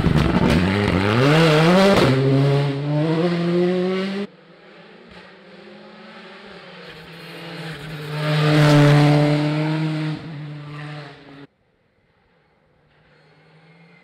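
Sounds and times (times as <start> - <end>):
rally car passing by: 0.0 - 11.5, 12.4 - 14.0.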